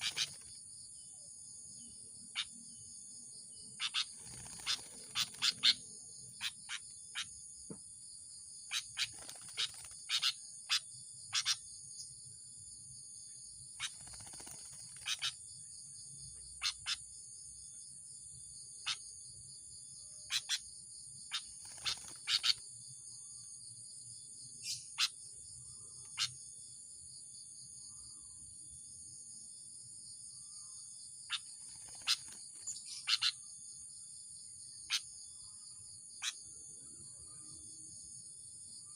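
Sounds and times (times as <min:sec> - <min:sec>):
bird chirping: 0:00.0 - 0:26.7, 0:30.1 - 0:38.9
high-pitched insect chorus: 0:00.0 - 0:38.9.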